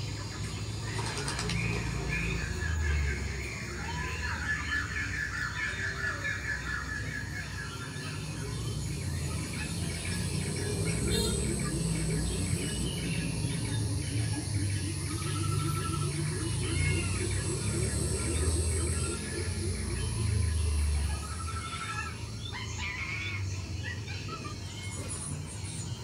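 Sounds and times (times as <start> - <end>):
bird trilling: 0.0 - 26.0
birds chirping: 0.0 - 26.0.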